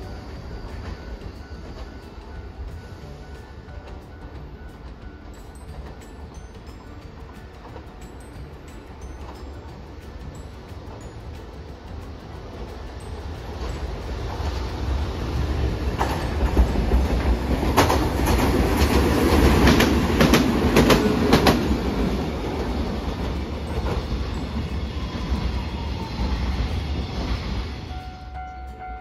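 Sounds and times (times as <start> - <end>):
wheels clicking over rail joints: 0.0 - 27.8
tram rumbling past: 0.0 - 29.0.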